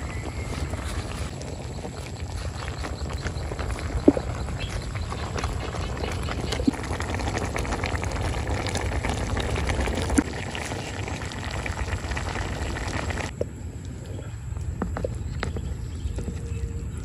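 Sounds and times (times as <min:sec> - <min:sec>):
soup boiling and bubbling: 0:00.0 - 0:16.6.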